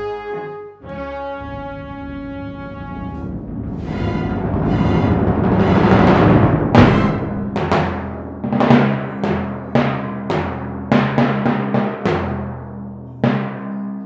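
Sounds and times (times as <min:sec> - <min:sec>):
timpani strokes: 0:00.0 - 0:13.8.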